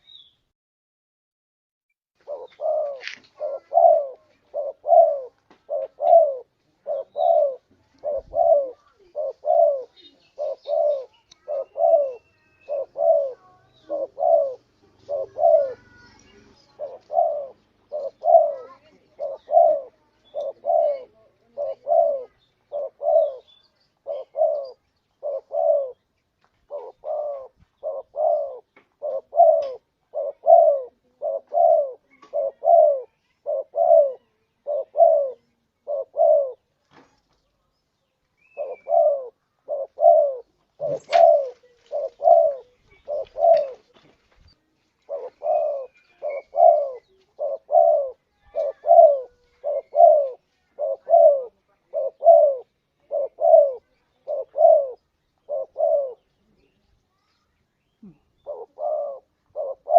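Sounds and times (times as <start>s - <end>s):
dove cooing: 2.2s - 36.7s, 38.4s - 44.1s, 45.0s - 56.8s, 58.0s - 59.9s.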